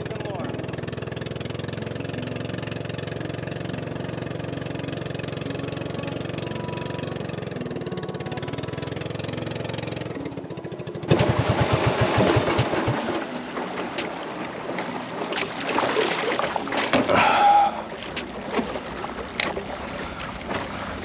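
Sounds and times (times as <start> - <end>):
small boat motor running: 0.0 - 21.0.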